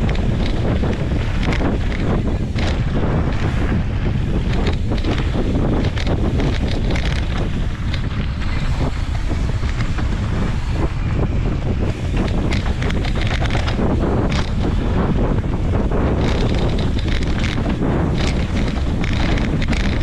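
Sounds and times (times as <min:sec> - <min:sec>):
bike clicks and rattles: 0:00.0 - 0:20.0
tyres rumbling on dirt: 0:00.0 - 0:20.0
wind buffeting microphone: 0:00.0 - 0:20.0.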